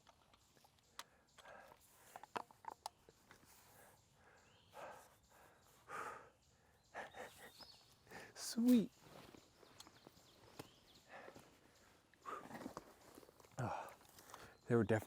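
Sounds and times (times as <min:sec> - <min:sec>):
soft breaths: 0:00.8 - 0:14.7.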